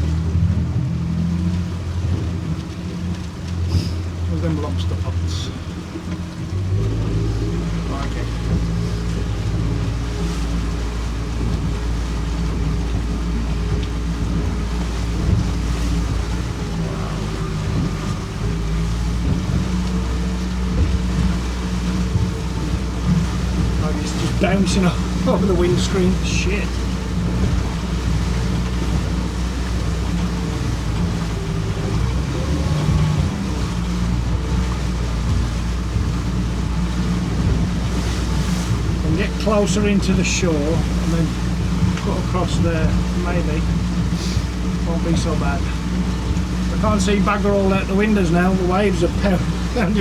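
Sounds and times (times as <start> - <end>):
boat engine running: 0.0 - 50.0
sea noise: 0.0 - 50.0
wind: 0.0 - 50.0.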